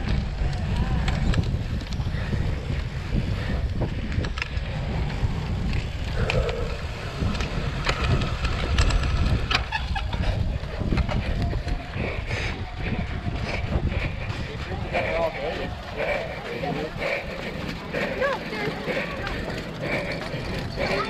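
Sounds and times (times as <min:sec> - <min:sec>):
bike clicks and rattles: 0:00.0 - 0:21.0
tyres rumbling on dirt: 0:00.0 - 0:21.0
wind buffeting microphone: 0:00.0 - 0:21.0.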